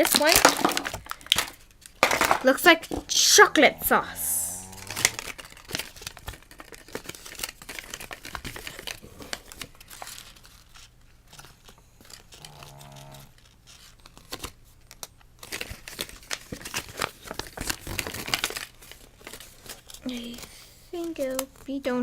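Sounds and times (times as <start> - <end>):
toy packaging crinkling: 0.0 - 3.0, 4.6 - 12.6, 13.4 - 21.8.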